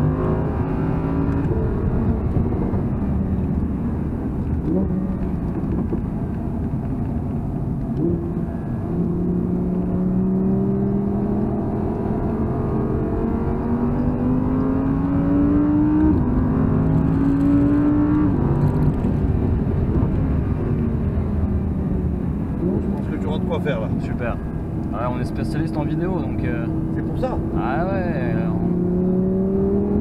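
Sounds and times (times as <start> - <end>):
car engine accelerating: 0.0 - 30.0
low road rumble: 0.0 - 30.0.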